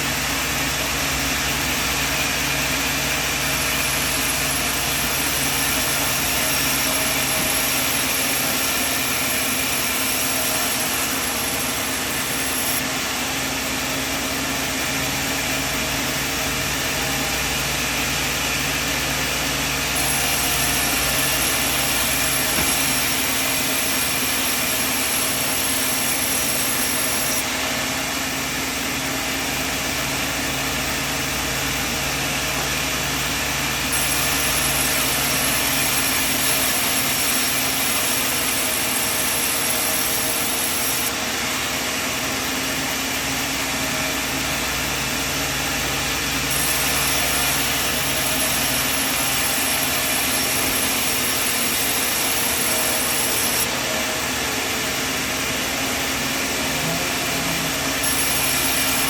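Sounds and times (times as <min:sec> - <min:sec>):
high mechanical whine: 0:00.0 - 0:59.0
sawmill machine humming: 0:00.0 - 0:59.0.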